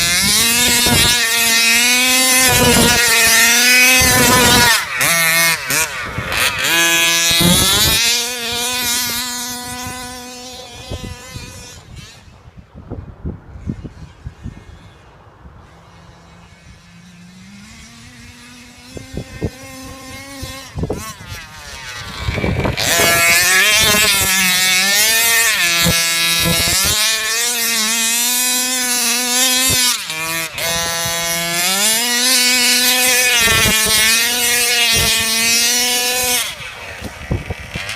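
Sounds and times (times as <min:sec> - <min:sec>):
two-stroke engine revving: 0:00.0 - 0:12.6, 0:13.6 - 0:37.9.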